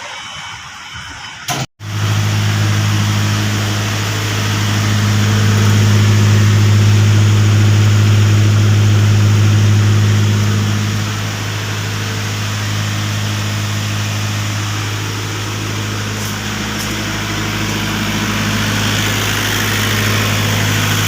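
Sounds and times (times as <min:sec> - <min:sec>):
diesel generator running: 0:00.0 - 0:21.0.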